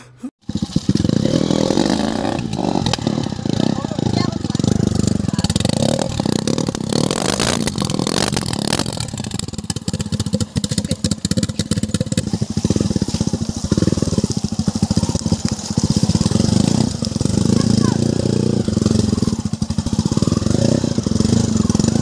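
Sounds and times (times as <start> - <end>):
motorcycle engine running: 0.4 - 22.0
sharp rattles: 0.4 - 22.0.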